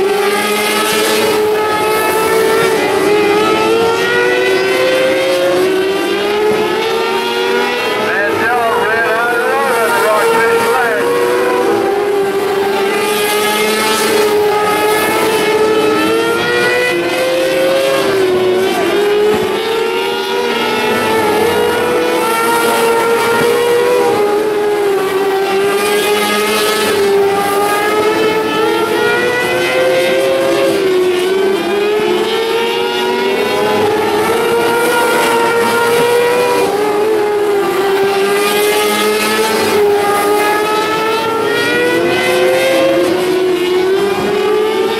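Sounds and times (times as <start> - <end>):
racing cars high-revving engines: 0.0 - 44.9.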